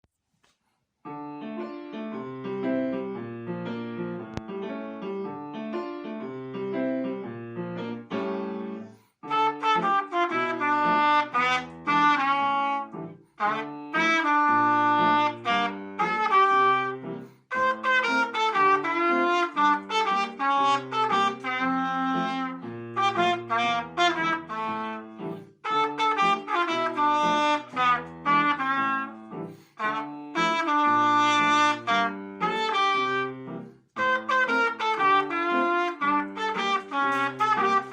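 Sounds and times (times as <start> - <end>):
lead melody: 1.1 - 37.9.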